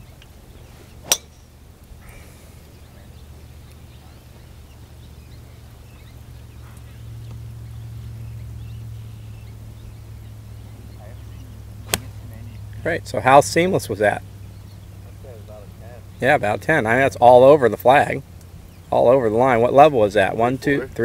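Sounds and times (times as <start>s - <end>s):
steady low rumble: 0.0s - 17.2s.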